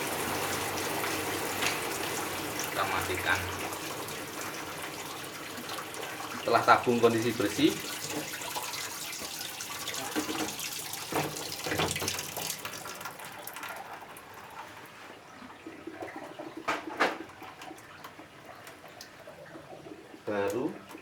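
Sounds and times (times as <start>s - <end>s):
water splashing in washing machine tub: 0.0s - 21.0s.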